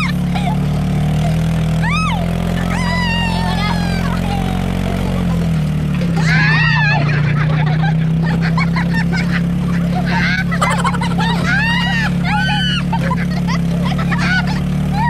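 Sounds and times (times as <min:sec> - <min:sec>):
atv engine running: 0:00.0 - 0:15.0
people laughing and shrieking: 0:00.0 - 0:15.0.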